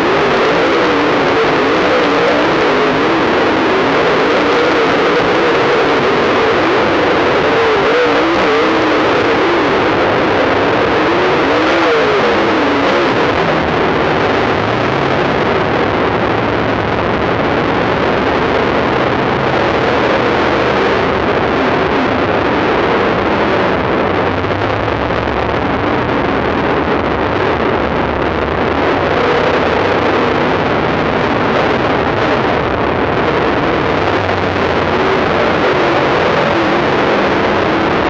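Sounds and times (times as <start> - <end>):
race car engines running hard: 0.0 - 38.0.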